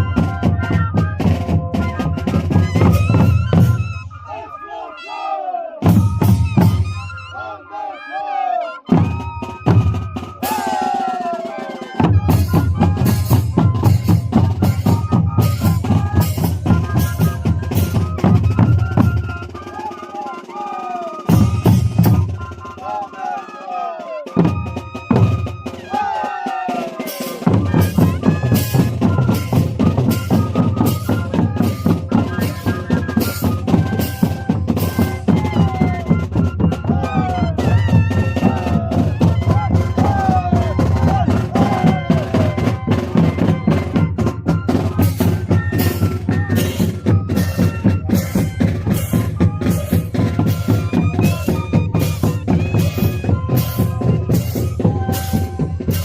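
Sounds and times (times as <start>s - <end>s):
bass drums and snare drums: 0.0s - 4.4s, 5.8s - 7.2s, 8.9s - 23.5s, 24.3s - 56.0s
cane flutes: 0.0s - 56.0s.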